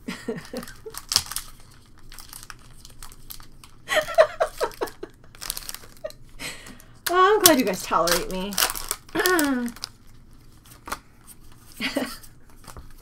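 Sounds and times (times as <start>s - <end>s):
foil wrapper crinkling and tearing: 0.4s - 11.0s.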